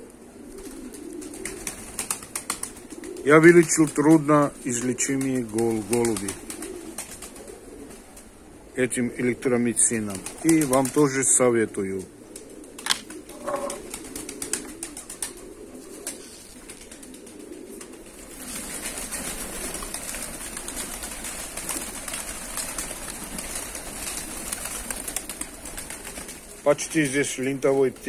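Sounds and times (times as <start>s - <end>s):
wings flapping and rustling: 0.0s - 8.5s, 9.7s - 28.0s
pigeons cooing: 0.0s - 28.0s.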